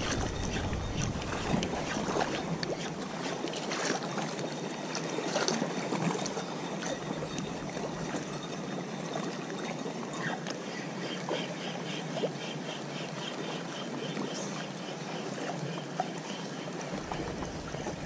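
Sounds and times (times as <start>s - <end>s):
choppy water lapping and splashing: 0.0s - 18.0s.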